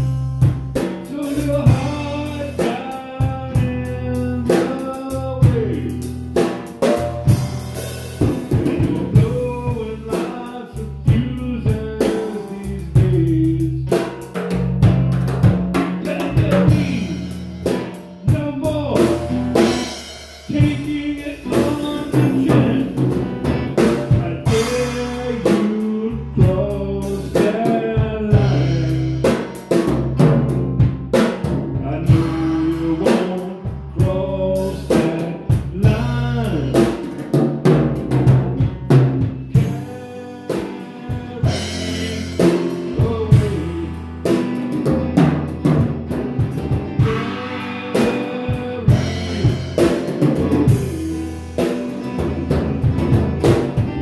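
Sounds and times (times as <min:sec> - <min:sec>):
bass drum hits: 0:00.0 - 0:10.1, 0:13.0 - 0:33.0, 0:35.0 - 0:40.0, 0:41.1 - 0:54.0
electric bass: 0:00.0 - 0:54.0
guitar: 0:00.0 - 0:54.0.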